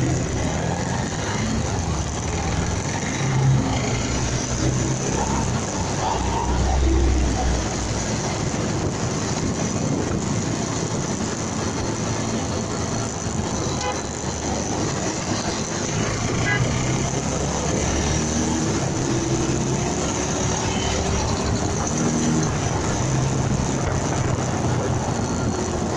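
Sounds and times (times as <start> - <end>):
road and wind noise: 0.0 - 25.9.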